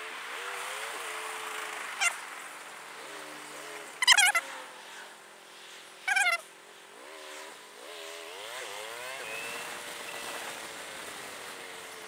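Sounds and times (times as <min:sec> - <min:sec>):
motorcycle engine revving: 0:00.0 - 0:04.9, 0:06.9 - 0:12.0.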